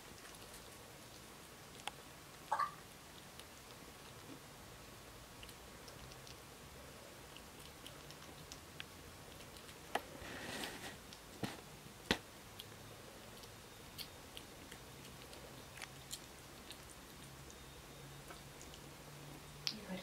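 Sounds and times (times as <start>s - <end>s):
kitten chewing food: 0.0s - 20.0s.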